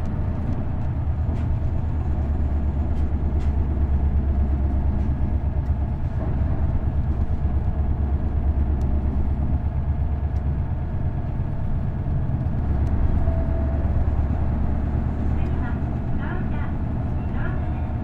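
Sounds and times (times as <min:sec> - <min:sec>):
bus diesel engine running: 0:00.0 - 0:18.0.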